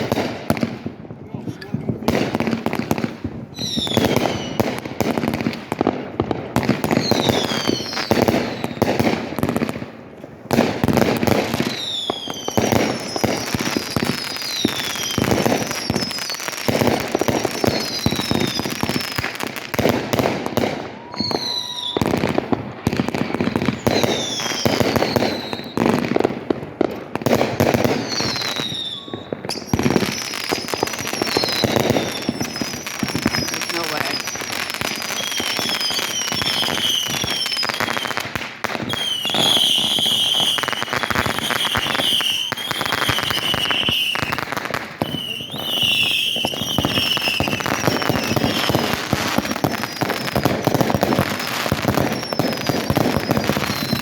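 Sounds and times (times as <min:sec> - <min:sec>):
fireworks crackling and banging: 0:00.0 - 0:54.0
descending firework whistles: 0:03.5 - 0:04.8, 0:06.8 - 0:09.1, 0:11.1 - 0:22.6, 0:23.4 - 0:26.0, 0:27.7 - 0:54.0.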